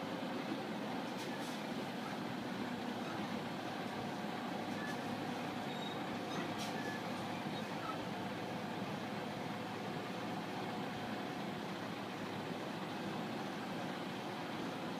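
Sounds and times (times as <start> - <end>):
truck diesel engine running: 0.0 - 14.9.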